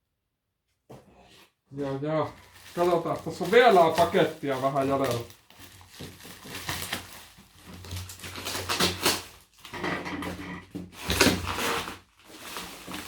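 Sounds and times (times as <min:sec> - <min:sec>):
cardboard and tape tearing: 0:02.4 - 0:13.0.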